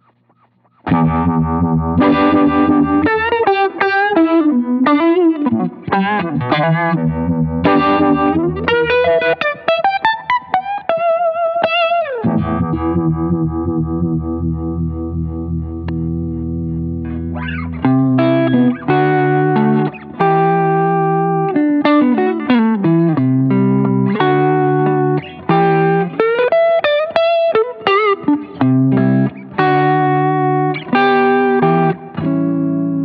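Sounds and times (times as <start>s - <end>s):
electric guitar with vibe effect: 0.0s - 33.0s.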